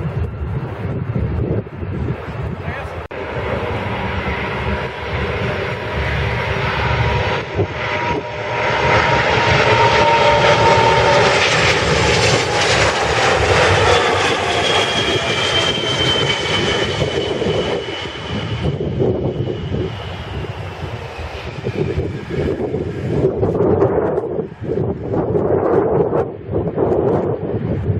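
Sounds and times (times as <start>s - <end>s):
jet airliner passing: 0.0s - 27.9s.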